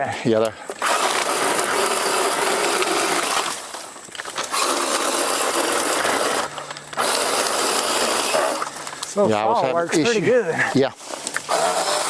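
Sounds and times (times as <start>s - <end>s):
power saw cutting branches: 0.7s - 10.4s, 11.0s - 12.0s.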